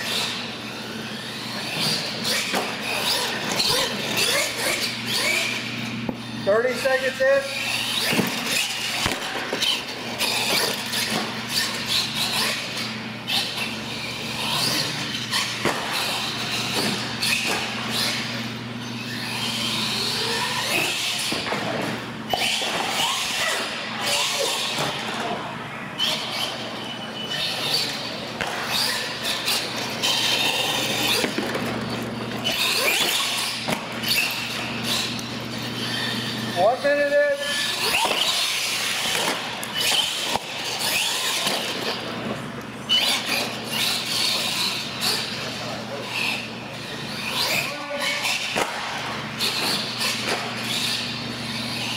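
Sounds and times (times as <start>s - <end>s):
electric motors whining: 0.0s - 51.9s
steady low hum: 0.0s - 51.9s.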